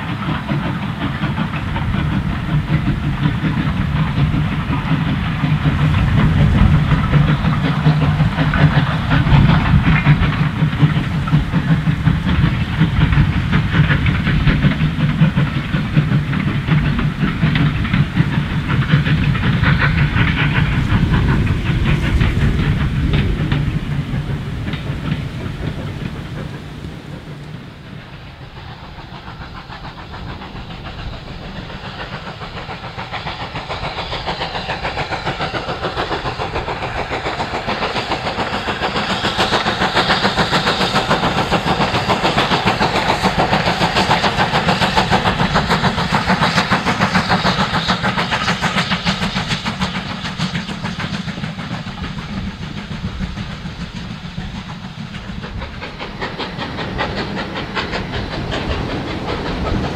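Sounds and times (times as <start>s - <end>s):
steam locomotive chuffing: 0.0s - 59.9s.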